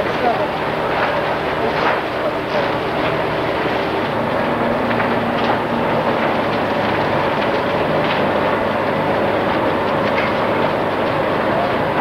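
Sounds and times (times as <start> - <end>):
engines running: 0.0 - 12.0
faint crackles: 0.1 - 12.0.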